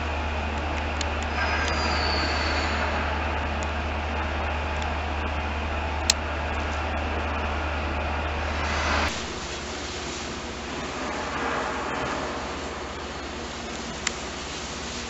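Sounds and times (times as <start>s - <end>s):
low hum: 0.0s - 15.0s
rail vehicle rumble: 0.0s - 15.0s.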